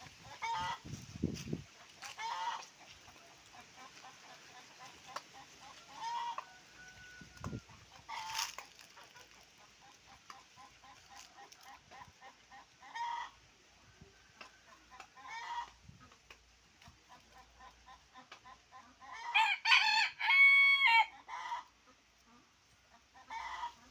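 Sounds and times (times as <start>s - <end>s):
chickens clucking: 0.0s - 19.6s, 20.3s - 23.9s.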